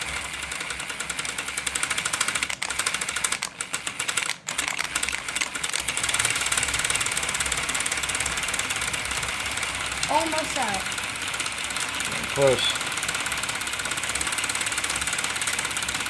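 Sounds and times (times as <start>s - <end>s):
impact driver clicking whir: 0.0s - 16.0s.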